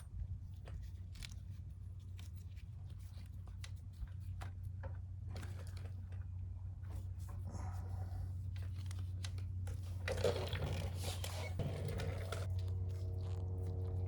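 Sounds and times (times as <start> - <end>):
rustling and scraping: 0.0 - 14.0
steady low hum: 0.0 - 14.0.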